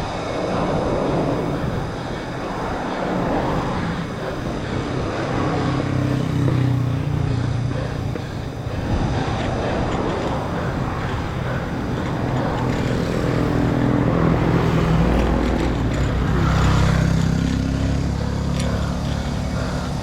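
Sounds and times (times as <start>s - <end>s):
wind and road noise: 0.0s - 20.0s
vehicle engine running: 2.6s - 20.0s.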